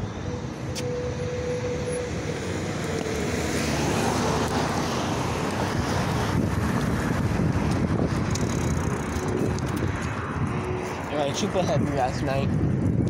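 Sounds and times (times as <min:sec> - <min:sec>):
road traffic: 0:00.0 - 0:13.0
wind buffeting microphone: 0:00.0 - 0:13.0.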